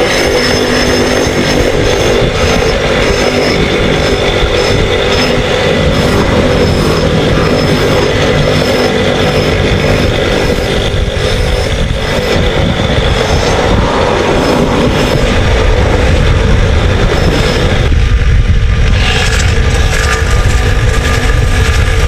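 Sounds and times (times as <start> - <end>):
electric sanding drum motor: 0.0 - 22.0
rubber sole grinding on sander: 0.0 - 22.0.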